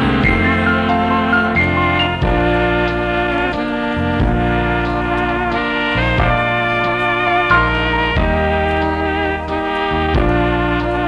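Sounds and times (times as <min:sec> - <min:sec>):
instrumental music held chords: 0:00.0 - 0:11.0.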